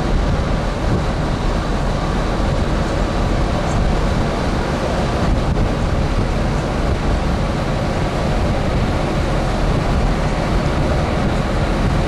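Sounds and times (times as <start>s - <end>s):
ship engines and machinery rumbling: 0.0s - 12.0s
wind on microphone: 0.0s - 12.0s.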